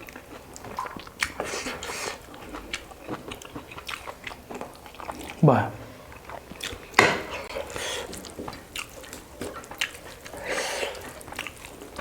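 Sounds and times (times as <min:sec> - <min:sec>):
chewing and wet squishing: 0:00.0 - 0:12.0.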